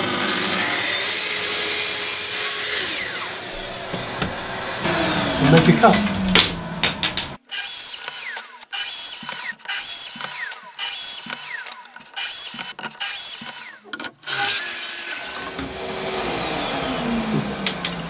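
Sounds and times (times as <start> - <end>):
circular saw cutting wood: 0.0 - 6.8, 7.4 - 18.0
saw motor winding down: 0.0 - 6.8, 7.5 - 18.0.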